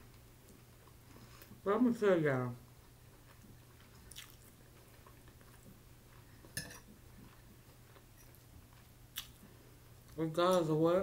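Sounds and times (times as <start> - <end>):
quiet chewing: 0.0 - 1.6, 2.6 - 10.7
steady low hum: 0.0 - 11.0.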